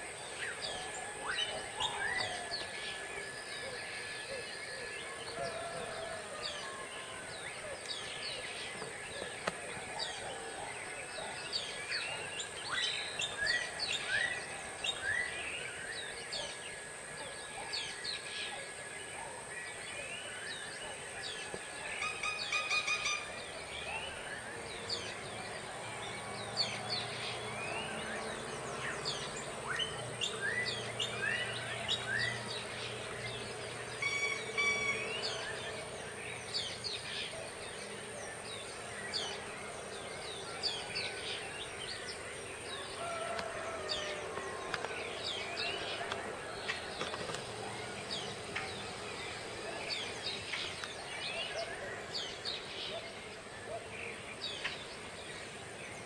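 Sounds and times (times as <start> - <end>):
tropical birds chirping and whistling: 0.0 - 56.0.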